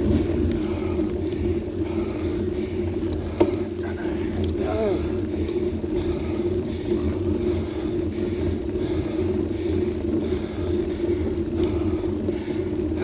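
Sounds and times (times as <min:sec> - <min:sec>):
bicycle tyre rumble on road: 0:00.0 - 0:13.0
constant low hum: 0:00.0 - 0:13.0.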